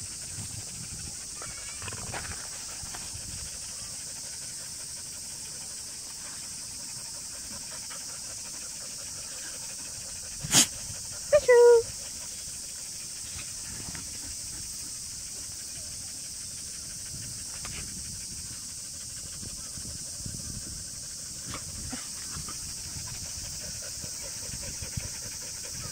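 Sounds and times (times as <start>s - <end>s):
dog panting softly: 0.0s - 25.9s
steady high hiss: 0.0s - 25.9s.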